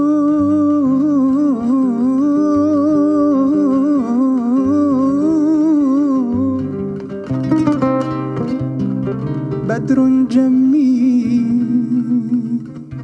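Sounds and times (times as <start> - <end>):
man singing a long melisma: 0.0 - 7.5, 9.6 - 13.0.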